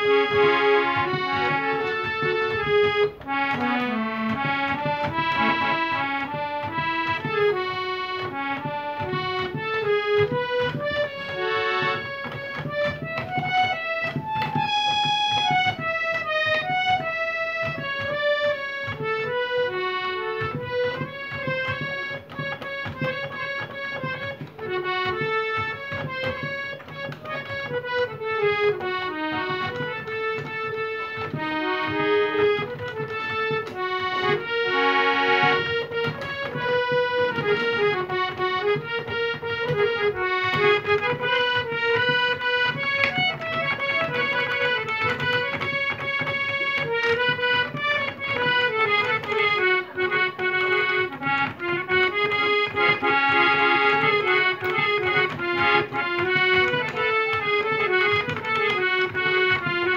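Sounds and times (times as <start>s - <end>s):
harmonium playing: 0.0s - 59.9s.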